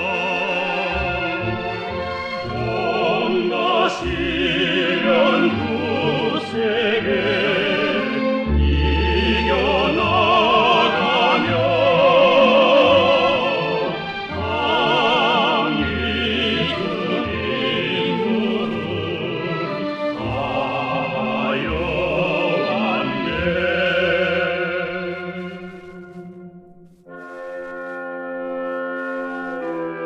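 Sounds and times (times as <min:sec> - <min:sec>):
operatic orchestral music: 0:00.0 - 0:30.0.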